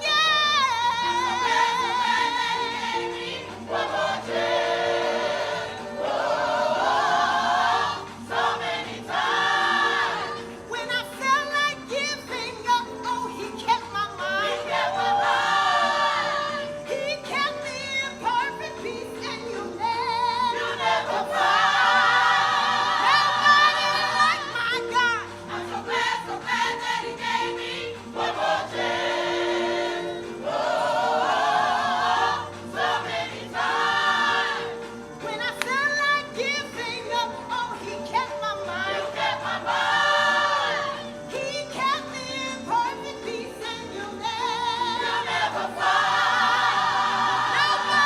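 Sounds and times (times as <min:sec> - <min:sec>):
choir singing gospel: 0:00.0 - 0:48.0.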